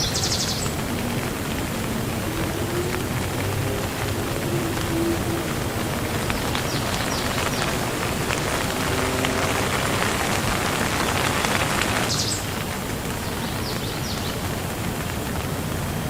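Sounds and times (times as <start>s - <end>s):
drops pattering close by: 0.0s - 15.9s
steady rain falling: 0.0s - 16.0s.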